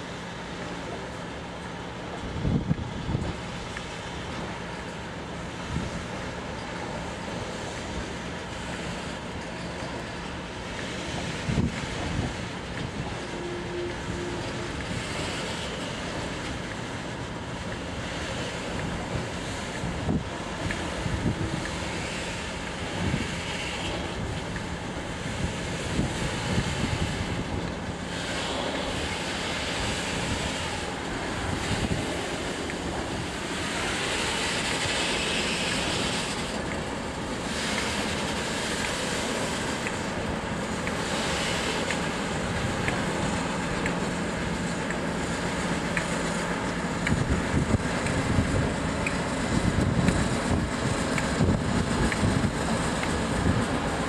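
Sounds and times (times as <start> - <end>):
low engine drone: 0.0 - 54.0
train wagons rolling on rails: 0.0 - 54.0
wind buffeting microphone: 2.2 - 3.6, 10.7 - 54.0.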